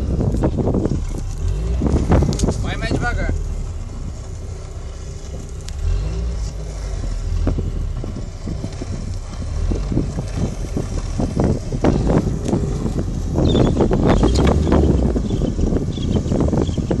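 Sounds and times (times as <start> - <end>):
gusty thumps: 0.0 - 17.0
low rolling rumble: 0.0 - 17.0
wind buffeting microphone: 0.0 - 17.0.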